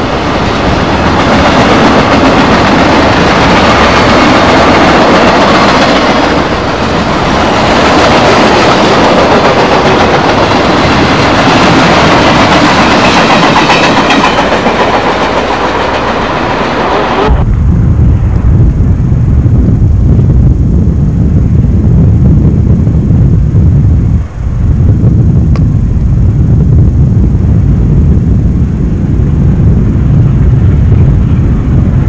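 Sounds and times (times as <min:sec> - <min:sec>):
train passing on track: 0:00.0 - 0:32.0.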